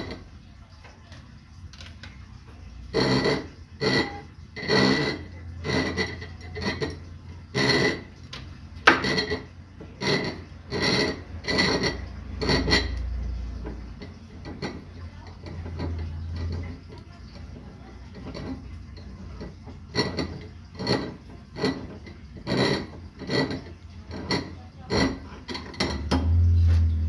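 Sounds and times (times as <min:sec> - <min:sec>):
glass scratching with squeaky ring: 0:02.9 - 0:27.0.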